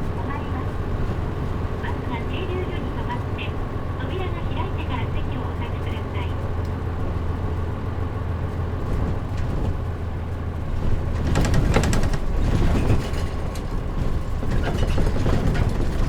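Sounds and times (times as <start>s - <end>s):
bus diesel engine droning: 0.0s - 16.0s
bus interior rattling: 0.0s - 16.0s.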